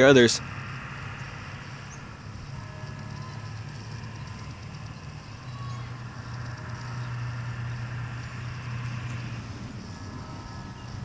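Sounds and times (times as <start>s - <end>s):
distant church bells ringing: 0.0s - 11.0s
low engine hum: 0.0s - 11.0s.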